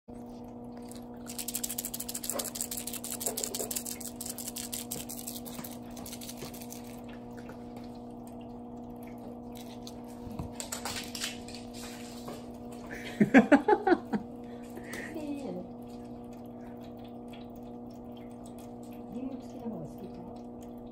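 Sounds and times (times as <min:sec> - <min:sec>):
electrical hum: 0:00.1 - 0:20.9.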